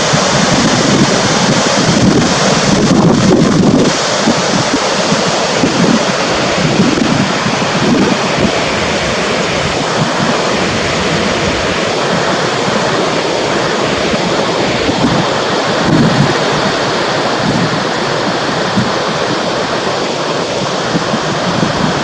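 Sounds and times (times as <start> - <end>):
waterfall rushing: 0.0 - 22.0
wind buffeting microphone: 0.0 - 22.0.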